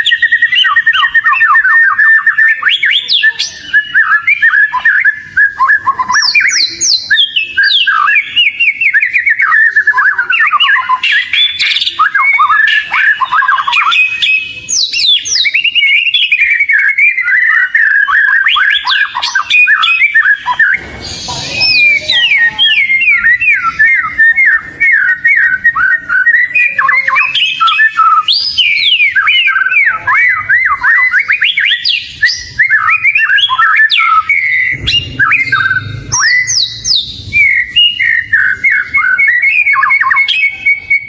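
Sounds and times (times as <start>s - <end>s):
bird singing whistled notes: 0.0s - 41.0s.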